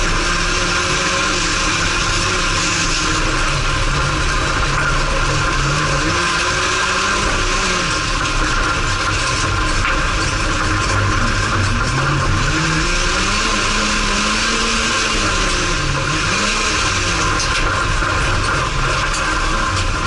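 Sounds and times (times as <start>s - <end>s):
race car engine running hard: 0.0s - 20.0s
tyre and track noise: 0.0s - 20.0s.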